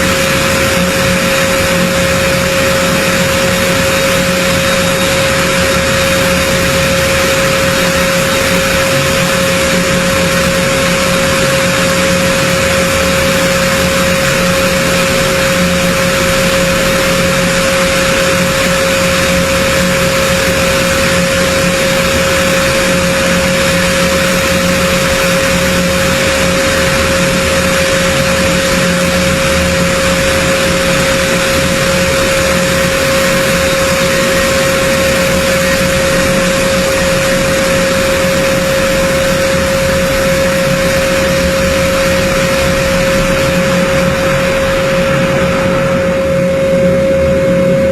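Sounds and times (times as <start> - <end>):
aircraft engines whining: 0.0 - 47.9.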